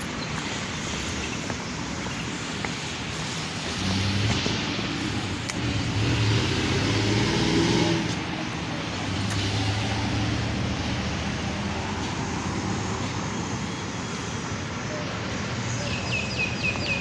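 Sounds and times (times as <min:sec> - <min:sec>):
cars passing on street: 0:00.0 - 0:17.0.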